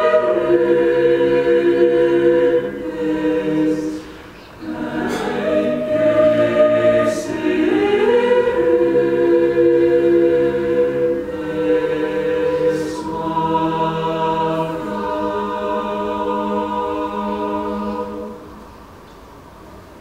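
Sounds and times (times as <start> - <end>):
choir singing a cappella: 0.0 - 18.7.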